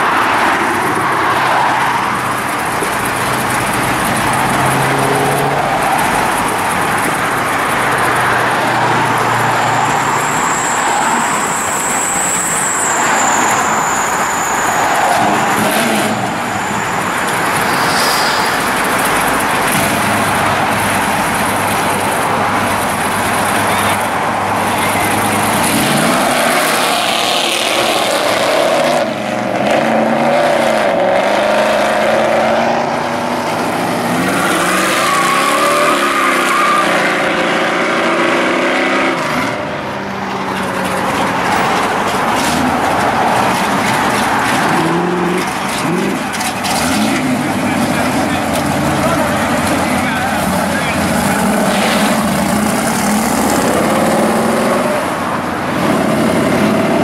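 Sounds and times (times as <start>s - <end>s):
car engine revving: 2.2s - 40.0s, 40.6s - 57.0s.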